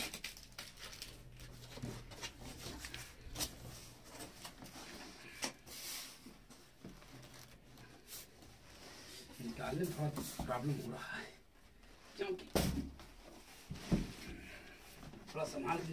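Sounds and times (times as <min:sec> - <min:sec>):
cardboard and foam rustling: 0:00.0 - 0:11.1, 0:11.7 - 0:15.9.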